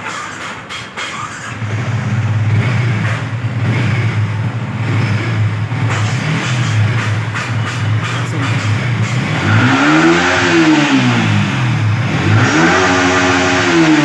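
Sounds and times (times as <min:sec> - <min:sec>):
motorcycle engine running: 0:01.6 - 0:14.0.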